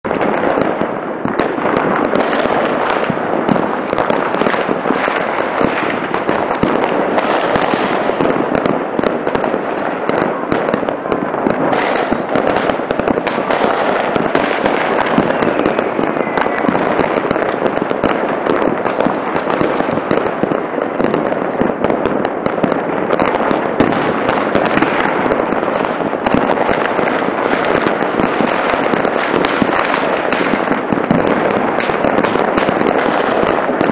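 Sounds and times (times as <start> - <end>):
fireworks and firecrackers banging: 0.0 - 33.9.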